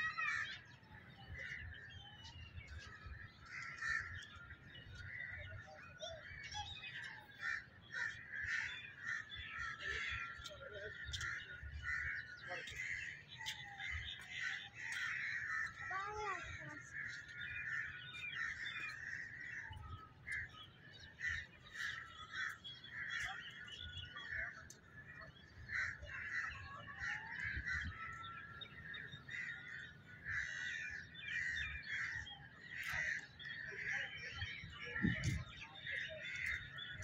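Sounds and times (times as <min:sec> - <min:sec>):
birds calling and chattering: 0:00.0 - 0:37.0.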